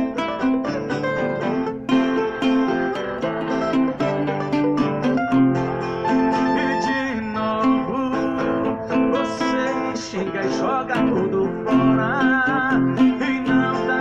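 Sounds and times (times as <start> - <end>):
acoustic guitar music: 0.0 - 14.0
person singing: 0.0 - 14.0.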